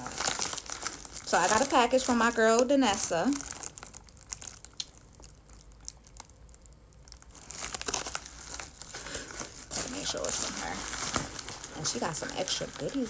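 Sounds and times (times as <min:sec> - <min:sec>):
package wrapping crinkling: 0:00.0 - 0:13.0.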